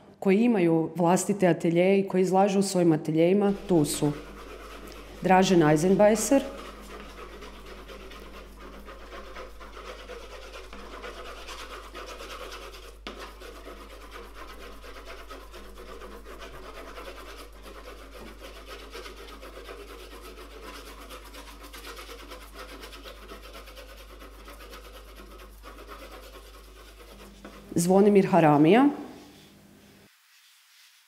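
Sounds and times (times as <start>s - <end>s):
chalk scratching on paper: 3.4s - 31.0s.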